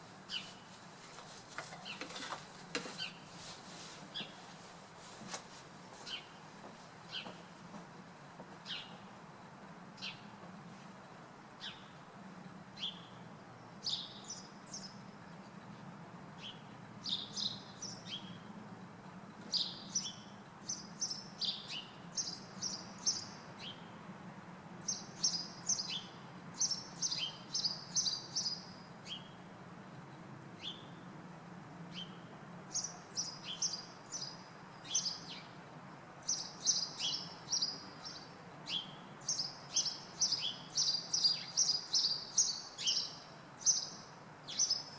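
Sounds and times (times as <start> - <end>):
small birds chirping: 0.2 - 7.8, 8.6 - 18.5, 19.4 - 24.0, 24.8 - 29.5, 30.1 - 31.1, 31.9 - 35.6, 36.2 - 44.9.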